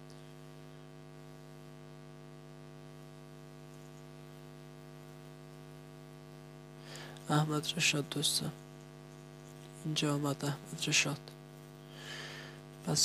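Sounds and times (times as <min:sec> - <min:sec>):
faint electrical hum with hiss: 0:00.0 - 0:13.0.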